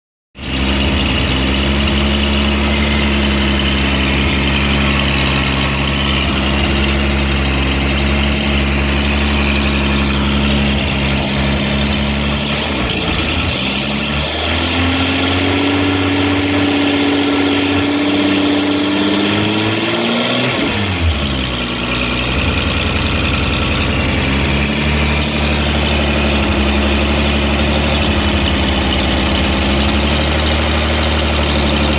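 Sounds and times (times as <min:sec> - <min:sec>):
car engine idling and revving: 0:00.4 - 0:31.9.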